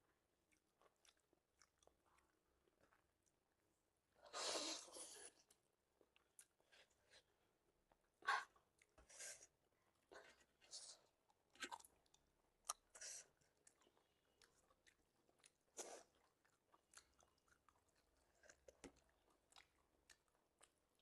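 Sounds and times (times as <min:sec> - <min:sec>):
person chewing food: 0:00.4 - 0:03.6, 0:04.8 - 0:21.0.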